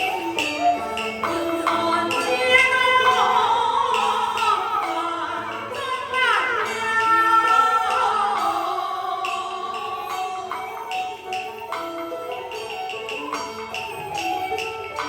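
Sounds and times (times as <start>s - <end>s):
traditional instrumental accompaniment: 0.0s - 15.0s.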